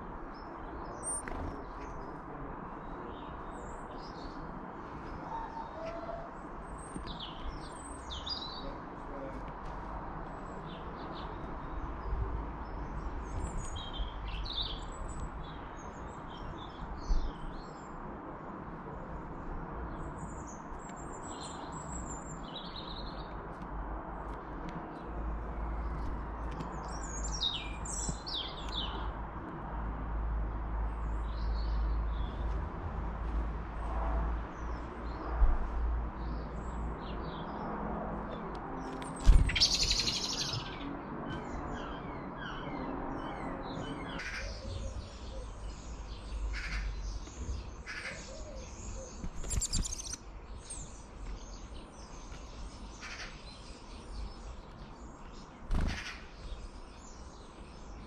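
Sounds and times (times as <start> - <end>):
garden birds chirping: 0.0 - 9.6, 10.2 - 17.9, 19.8 - 29.8, 30.4 - 32.7, 33.6 - 58.0.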